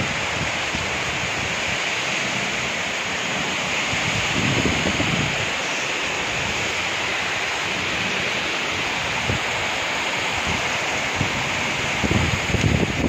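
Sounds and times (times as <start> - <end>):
heavy rain pouring: 0.0 - 13.0
wind buffeting microphone: 0.0 - 13.0.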